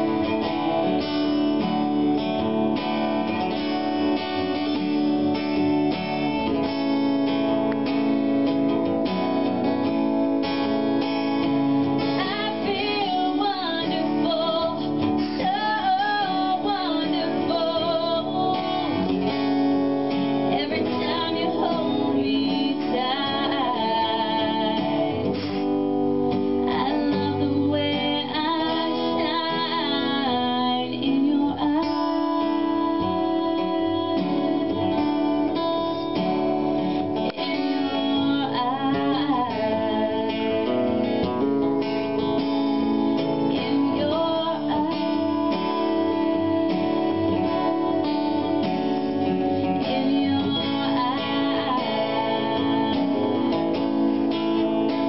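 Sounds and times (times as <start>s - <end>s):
woman singing: 0.0s - 7.8s, 11.8s - 55.0s
acoustic guitar: 0.0s - 55.0s.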